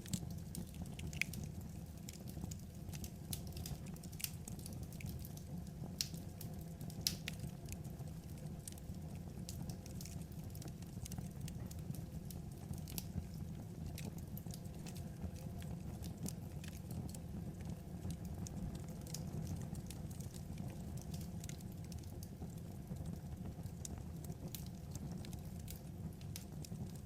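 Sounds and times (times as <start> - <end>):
fire low rumble: 0.0 - 27.0
logs popping and crackling: 0.0 - 27.0.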